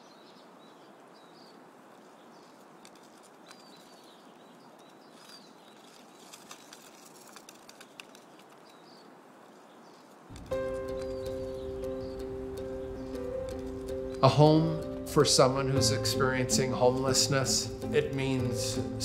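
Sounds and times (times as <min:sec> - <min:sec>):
background hiss: 0:00.0 - 0:19.0
small birds chirping: 0:00.0 - 0:19.0.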